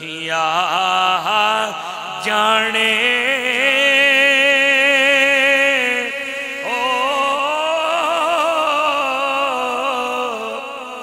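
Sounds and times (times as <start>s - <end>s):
man singing with vibrato: 0.0s - 11.0s.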